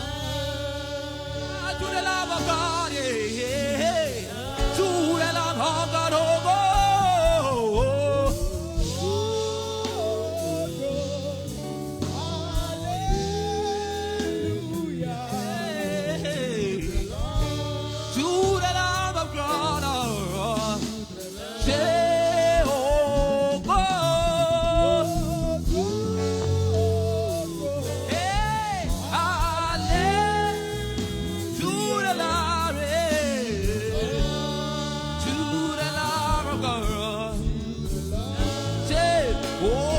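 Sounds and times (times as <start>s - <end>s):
instrumental accompaniment: 0.0s - 39.9s
person singing gliding vocal lines: 0.0s - 39.9s.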